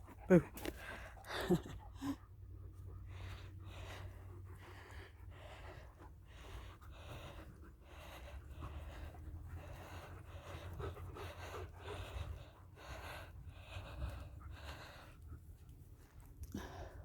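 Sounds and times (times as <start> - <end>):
heavy rhythmic panting: 0.0 - 17.0.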